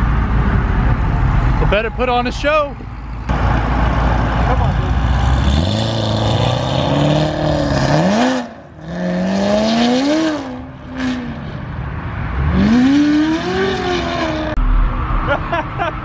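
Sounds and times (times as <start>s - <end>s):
car engine accelerating: 2.8s - 16.0s.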